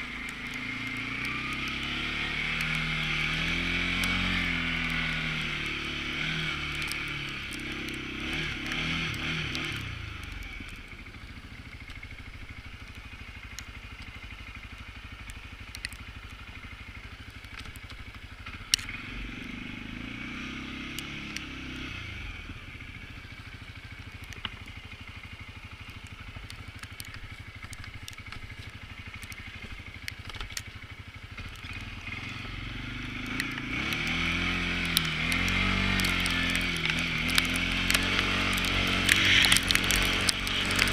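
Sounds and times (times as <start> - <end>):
atv engine revving: 0.0 - 40.9
sharp clicks: 0.1 - 11.0, 11.8 - 16.4, 17.2 - 19.1, 24.0 - 25.0, 25.8 - 32.3, 33.0 - 40.9.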